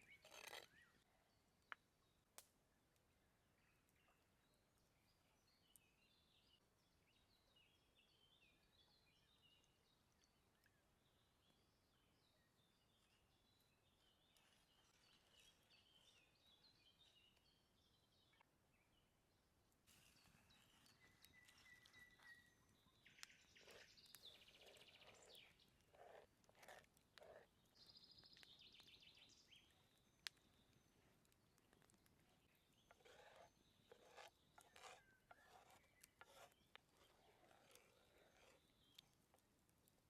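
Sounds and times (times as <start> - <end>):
faint birdsong: 0.0 - 40.0.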